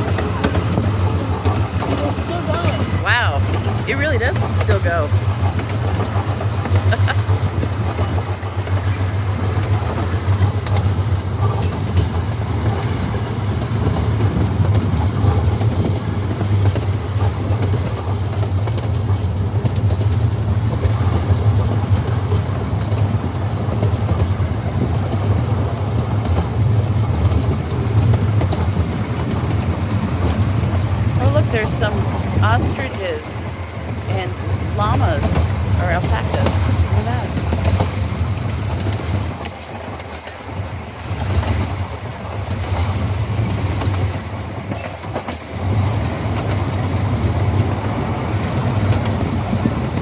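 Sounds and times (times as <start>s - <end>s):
miniature train rumbling on track: 0.0s - 50.0s.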